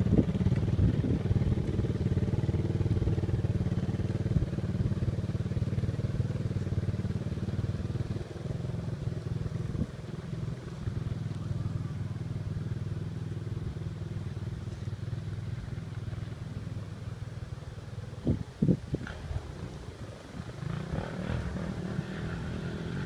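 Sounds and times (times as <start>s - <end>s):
quad engine running: 0.0s - 23.0s.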